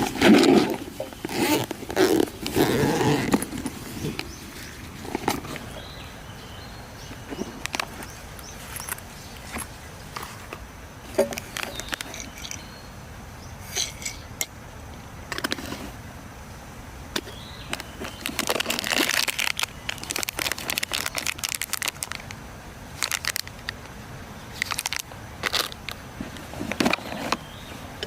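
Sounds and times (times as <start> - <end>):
crinkling rustle: 0.0 - 12.7, 17.2 - 28.0.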